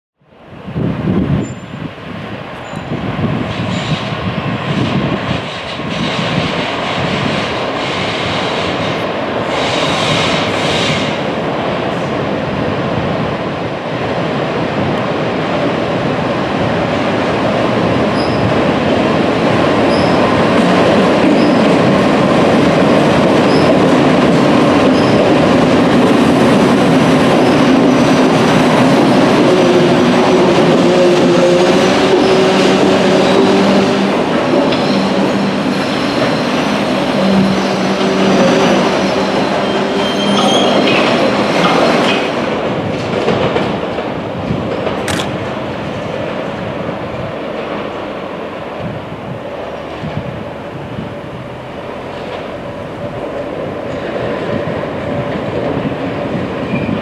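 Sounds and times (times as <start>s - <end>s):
train running on rails: 0.2s - 57.0s.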